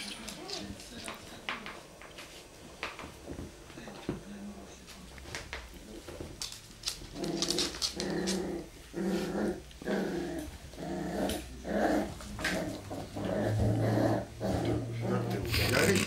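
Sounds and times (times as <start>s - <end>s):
puppies play-growling: 0.0s - 3.5s, 5.3s - 16.0s.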